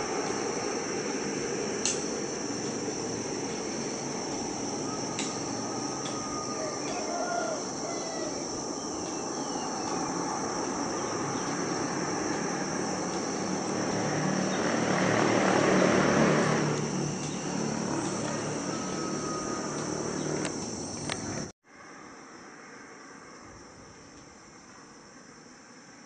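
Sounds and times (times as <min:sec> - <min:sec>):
distant jet engines rumbling: 0:00.0 - 0:21.5.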